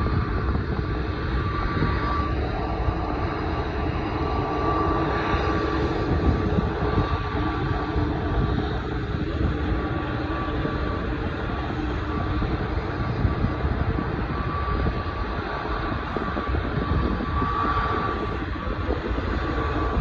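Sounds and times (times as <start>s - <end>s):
jet engines low rumble: 0.0s - 20.0s.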